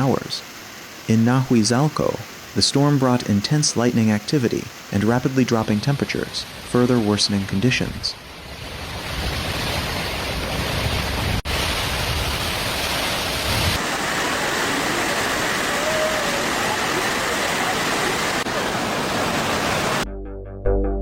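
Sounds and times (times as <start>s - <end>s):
rushing storm water: 0.0s - 20.0s.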